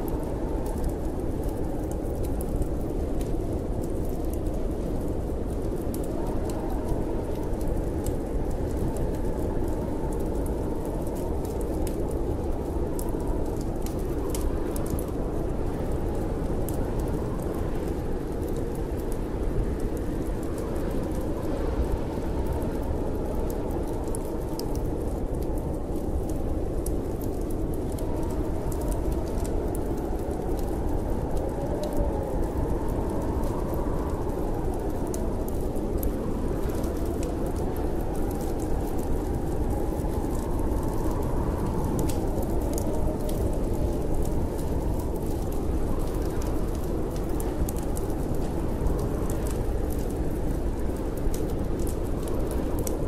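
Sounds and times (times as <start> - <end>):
low wind noise: 0.0 - 53.0
wood fire crackling: 0.0 - 53.0.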